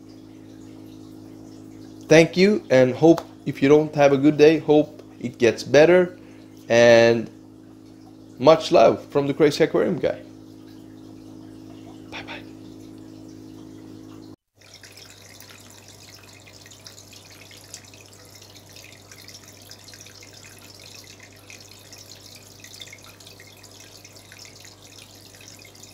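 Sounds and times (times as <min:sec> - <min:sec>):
steady low hum: 0:00.0 - 0:25.9
water trickling and dripping: 0:00.0 - 0:25.9.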